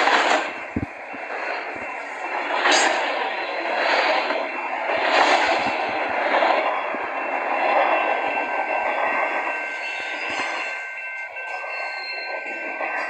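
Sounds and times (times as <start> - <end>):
freight train wagons on rails: 0.0 - 13.0.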